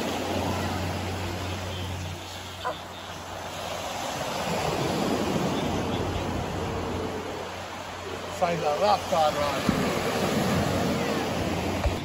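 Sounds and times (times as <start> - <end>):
surf washing onto sandy beach: 0.0 - 12.0.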